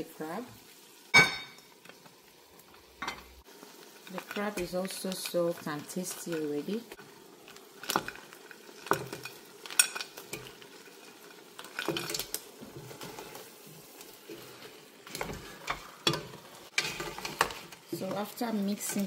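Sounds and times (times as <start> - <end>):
low sizzle: 0.0 - 19.0.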